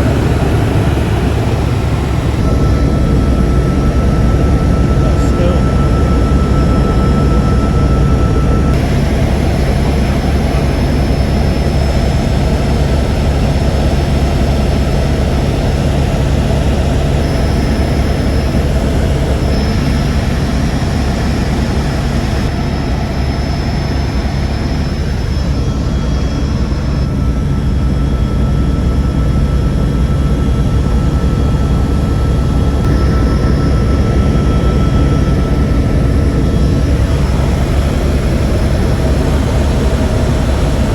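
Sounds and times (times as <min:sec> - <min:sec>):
helicopter engines and rotor: 0:00.0 - 0:40.9.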